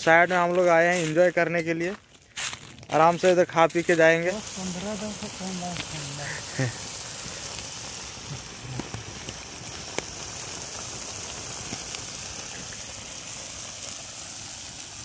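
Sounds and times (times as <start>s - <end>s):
burning wood crackling: 0.0s - 15.0s
curry simmering and sizzling: 0.1s - 15.0s.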